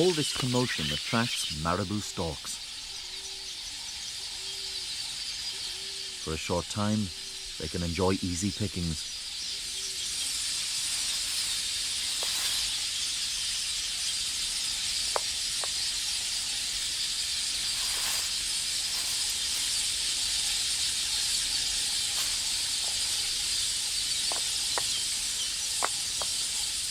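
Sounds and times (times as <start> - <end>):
high-pitched outdoor hiss: 0.0 - 26.9
storks clacking bills: 0.0 - 26.9.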